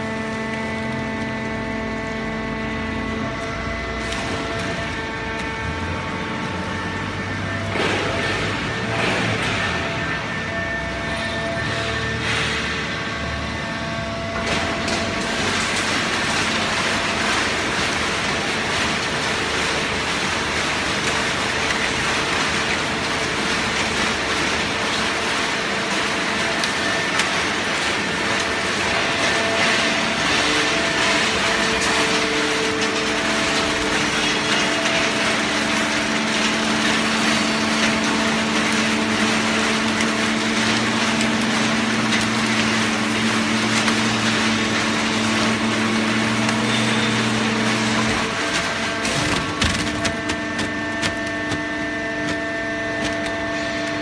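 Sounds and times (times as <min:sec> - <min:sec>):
baler machine running: 0:00.0 - 0:54.0
hydraulic pump hum: 0:00.0 - 0:54.0.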